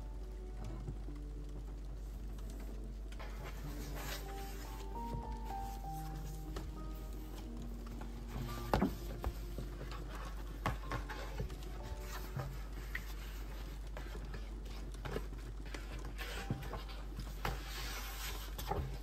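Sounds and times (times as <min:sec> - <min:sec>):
soft background music: 0:00.0 - 0:19.0
paper rustling: 0:02.2 - 0:19.0.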